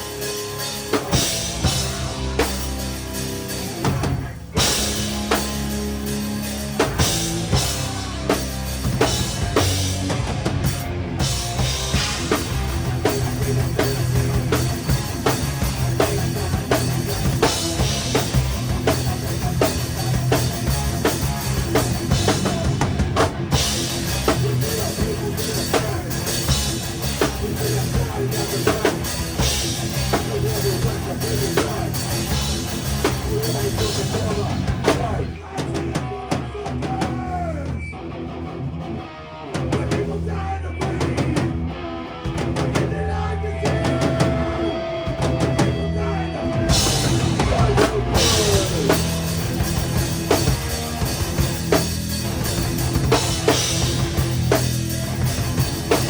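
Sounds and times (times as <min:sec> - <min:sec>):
drum kit: 0:00.0 - 0:56.0
rock band playing: 0:00.0 - 0:56.0.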